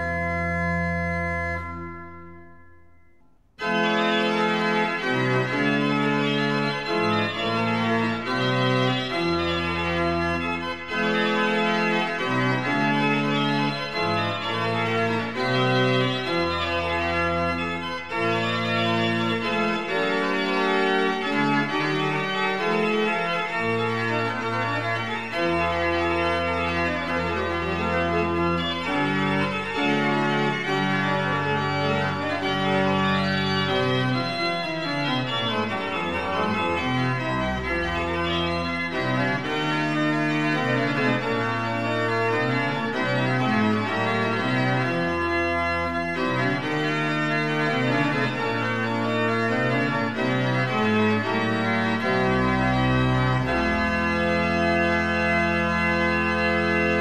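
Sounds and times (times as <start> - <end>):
pipe organ music: 0.0 - 57.0.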